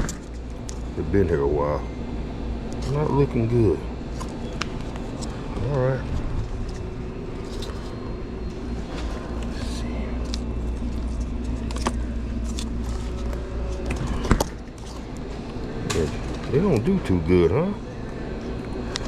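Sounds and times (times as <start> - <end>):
indoor store hum: 0.0 - 19.0.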